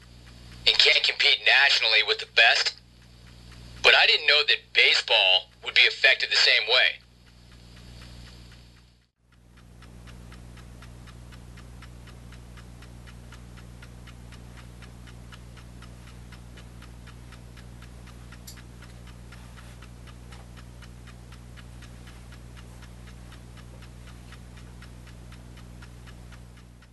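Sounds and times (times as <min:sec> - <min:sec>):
clock ticking: 0:00.0 - 0:26.9
steady low hum: 0:00.0 - 0:26.9.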